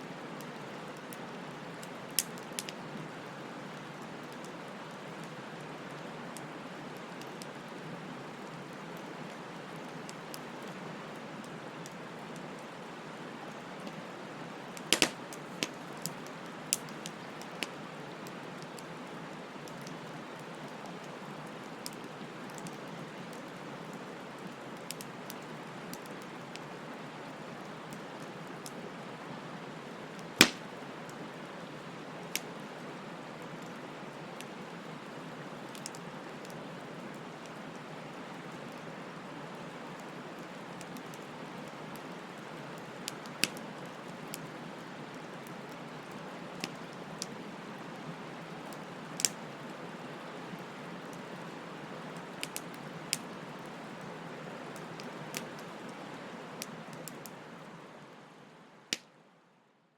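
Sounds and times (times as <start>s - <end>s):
bonfire crackling and popping: 0.4s - 29.2s, 30.1s - 57.6s.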